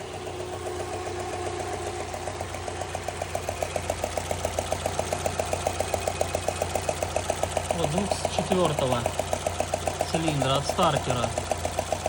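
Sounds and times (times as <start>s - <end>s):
engine idling with ticking knock: 0.0s - 12.0s.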